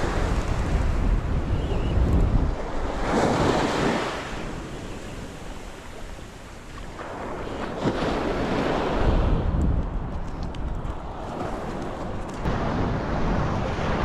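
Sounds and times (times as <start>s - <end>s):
ocean surf breaking: 0.0s - 9.5s, 10.8s - 14.0s
wind rumbling on microphone: 0.0s - 14.0s.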